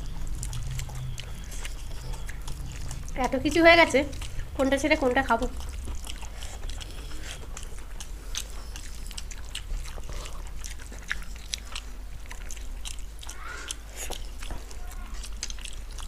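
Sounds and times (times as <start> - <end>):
wet mouth clicks and smacks: 0.0 - 3.2, 5.4 - 16.0
people chewing food: 0.0 - 16.0.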